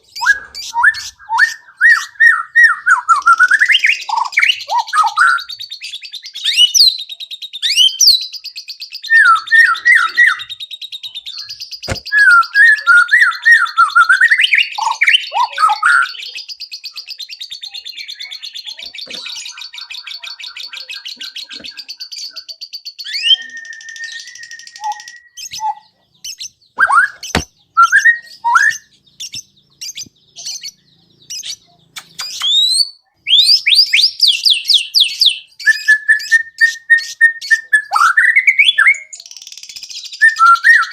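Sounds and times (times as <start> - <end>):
songbird singing whistled phrases: 0.0 - 40.9.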